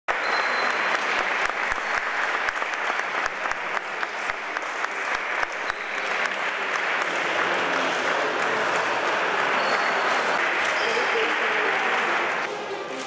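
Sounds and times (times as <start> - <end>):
many hands clapping: 0.0 - 13.0.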